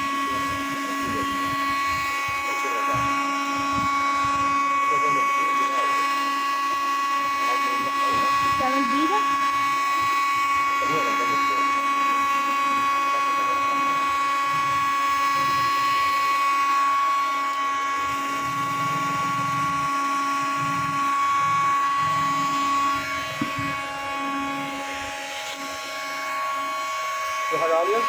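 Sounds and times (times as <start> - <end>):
power tool whining: 0.0 - 28.0.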